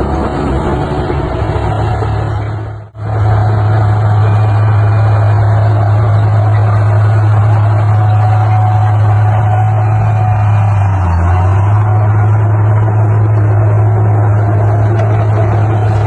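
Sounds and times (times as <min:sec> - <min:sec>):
heavy diesel engine humming: 0:00.0 - 0:16.0.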